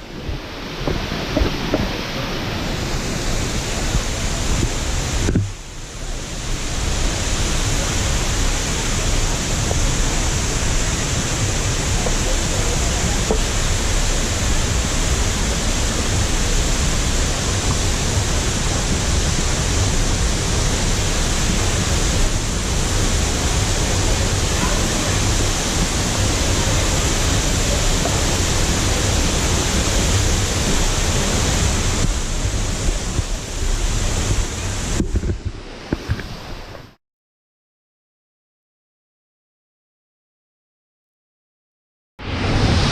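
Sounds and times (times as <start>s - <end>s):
waterfall rushing: 0.0s - 37.0s, 42.2s - 42.9s.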